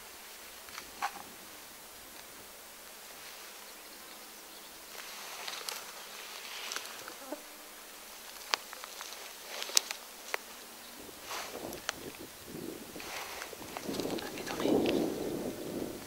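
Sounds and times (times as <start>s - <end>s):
soft rustling: 0.2s - 15.3s.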